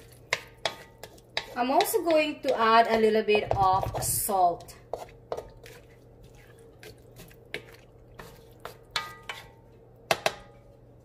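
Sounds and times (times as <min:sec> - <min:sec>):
utensil scraping metal wok: 0:00.0 - 0:09.6.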